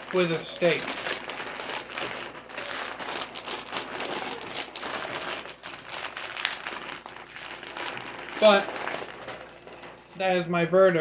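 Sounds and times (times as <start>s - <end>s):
chip bag crinkling: 0.0s - 10.5s.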